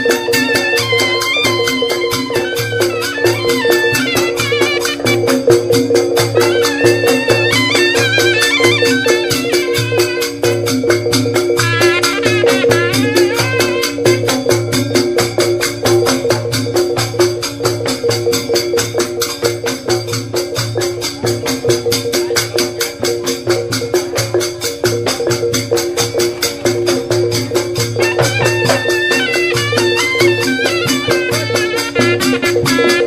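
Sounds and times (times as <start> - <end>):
fast drumming: 0.0 - 33.0
high wavering melody: 0.0 - 33.0.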